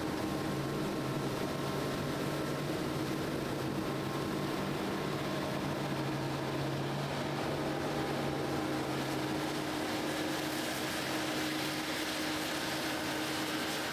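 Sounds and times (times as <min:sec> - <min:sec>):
combine harvester humming: 0:00.0 - 0:13.9.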